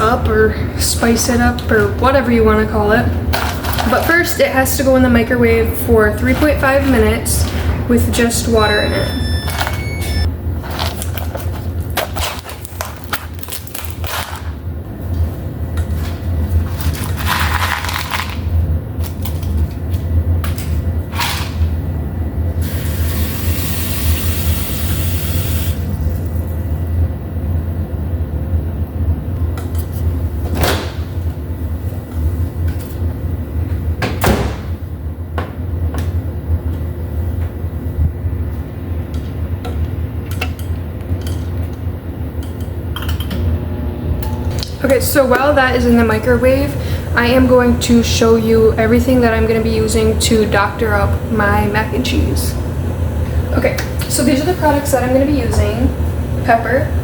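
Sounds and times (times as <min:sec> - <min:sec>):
microwave oven humming: 0:00.0 - 0:57.0.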